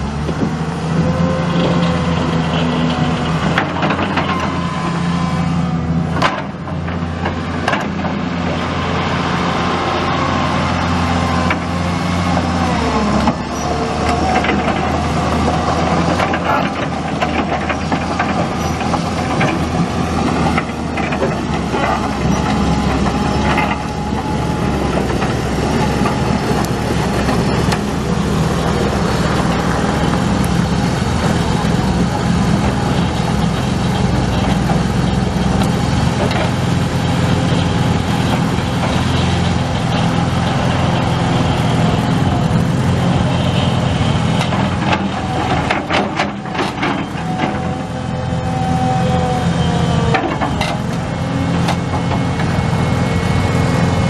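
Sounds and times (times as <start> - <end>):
diesel excavator engine running: 0.0 - 54.0.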